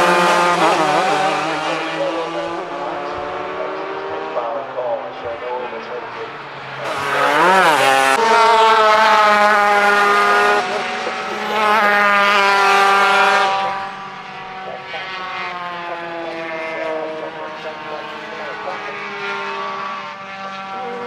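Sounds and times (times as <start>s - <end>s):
kart engines passing at high revs: 0.0s - 21.0s.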